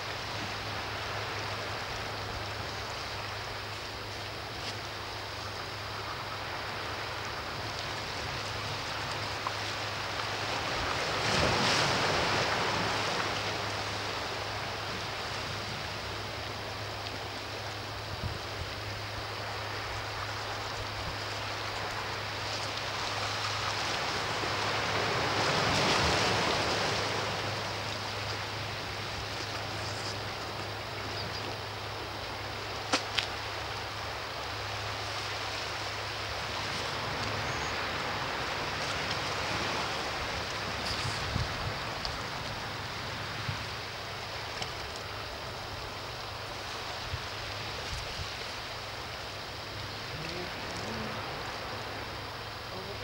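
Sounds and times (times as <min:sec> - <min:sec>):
hiss of surf: 0:00.0 - 0:53.0
large waves breaking: 0:00.0 - 0:53.0
sea waves washing ashore: 0:00.0 - 0:53.0.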